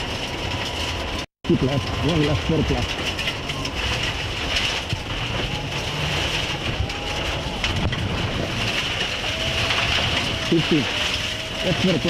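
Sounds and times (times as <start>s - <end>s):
car engine running: 0.0s - 12.0s
tyres on gravel rushing: 0.0s - 12.0s.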